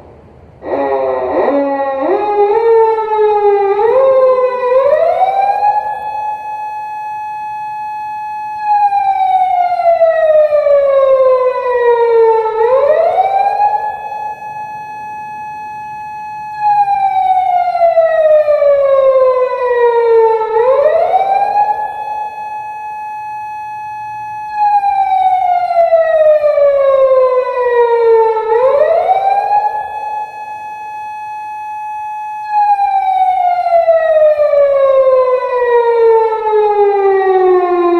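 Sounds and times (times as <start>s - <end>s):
police car siren wailing: 0.6s - 37.9s.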